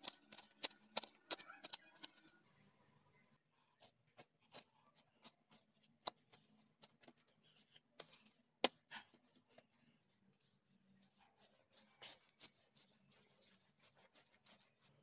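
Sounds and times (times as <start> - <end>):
patting pastry dough: 0.0 - 2.4, 3.7 - 15.0.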